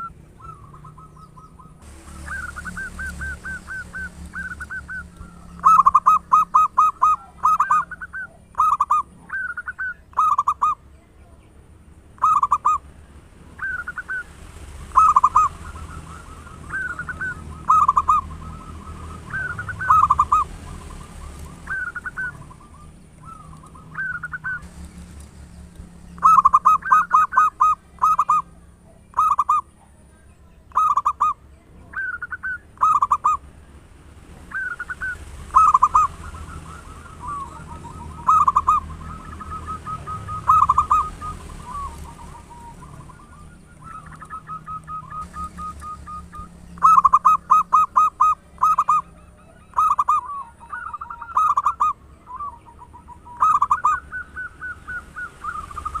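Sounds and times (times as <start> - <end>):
dove cooing: 0.0 - 10.9, 12.2 - 12.9, 13.6 - 25.2, 26.1 - 30.0, 30.7 - 33.4, 34.4 - 56.0.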